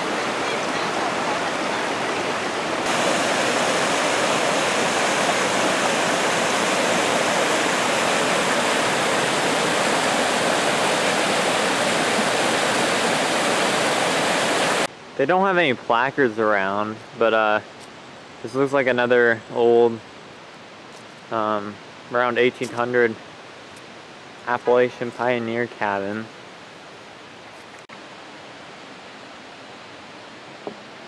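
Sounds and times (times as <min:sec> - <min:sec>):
mountain stream rushing: 0:00.0 - 0:14.9, 0:17.2 - 0:31.0.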